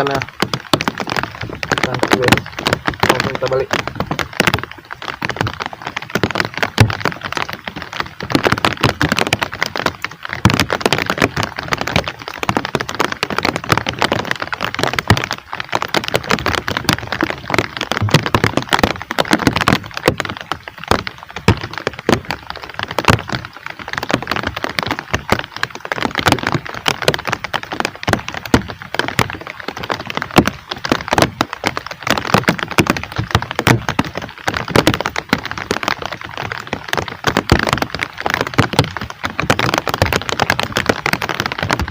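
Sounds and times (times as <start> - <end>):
heavy rain crackling: 0.0 - 41.9.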